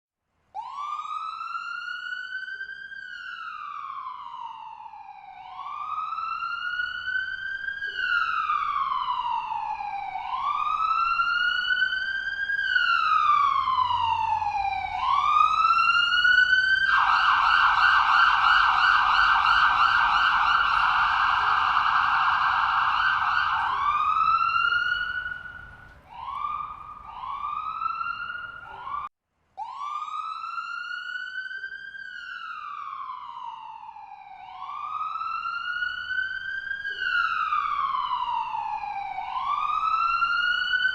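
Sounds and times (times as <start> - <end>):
ambulance siren wailing and yelping: 0.6 - 40.9.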